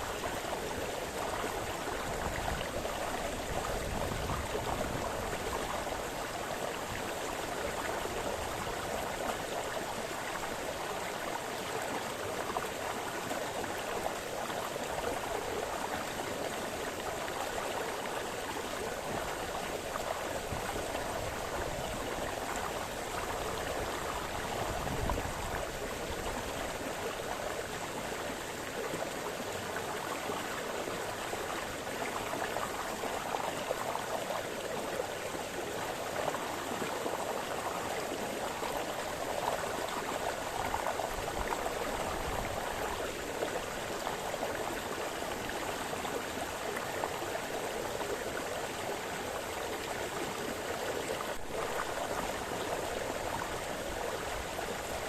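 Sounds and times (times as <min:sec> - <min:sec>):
brook burbling over stones: 0:00.0 - 0:55.0.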